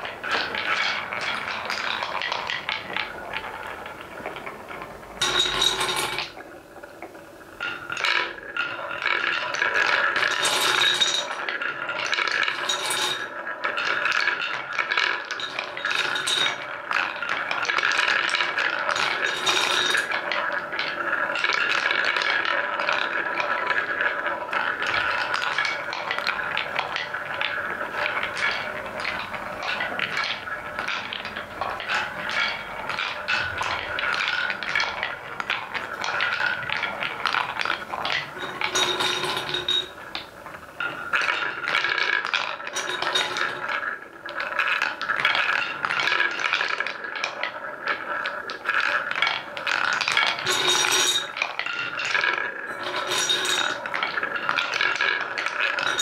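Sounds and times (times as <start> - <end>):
wooden balls clacking: 0.0 - 56.0
wooden balls rolling on track: 0.0 - 56.0.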